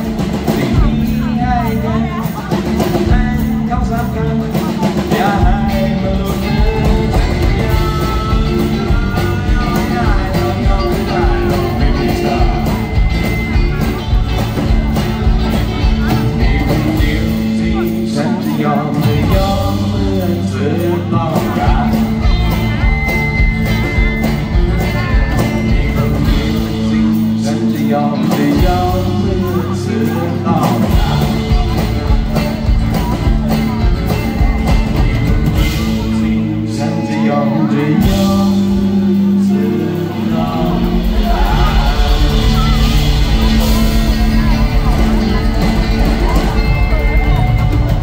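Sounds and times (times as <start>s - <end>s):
backing band: 0.0s - 48.0s
man singing: 0.0s - 48.0s
strummed acoustic guitar: 0.0s - 48.0s.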